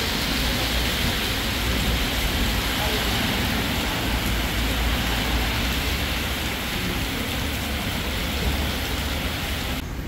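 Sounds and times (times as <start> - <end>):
tyres splashing through water: 0.0 - 9.8
heavy rain on street: 0.0 - 10.0
low rumble of traffic: 0.0 - 10.0.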